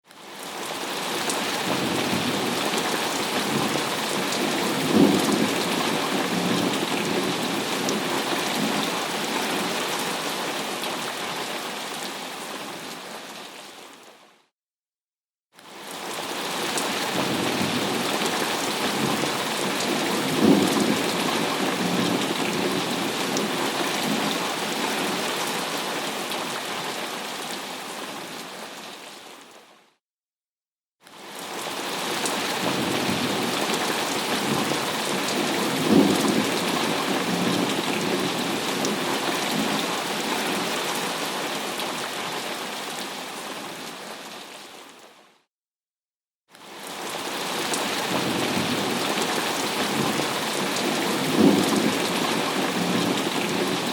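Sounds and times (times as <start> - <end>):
heavy rain: 0.2 - 14.0, 15.7 - 29.5, 31.2 - 45.1, 46.6 - 53.9.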